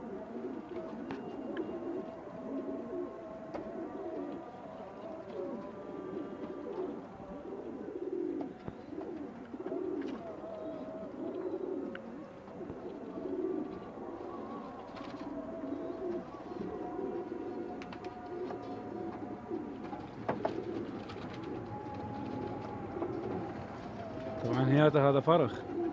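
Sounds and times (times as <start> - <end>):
pigeons cooing: 0.0 - 25.9.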